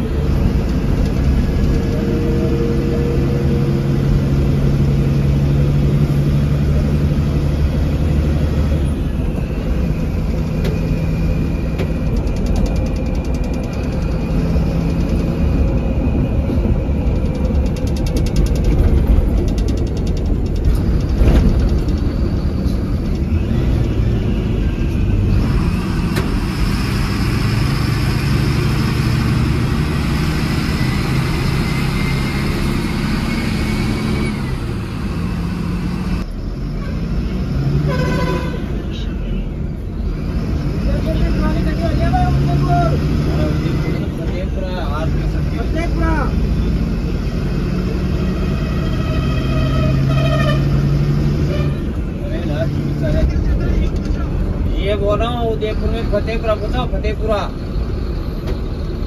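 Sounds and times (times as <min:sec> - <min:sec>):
bus diesel engine running: 0:00.0 - 0:59.0
road and tyre noise: 0:00.0 - 0:59.0.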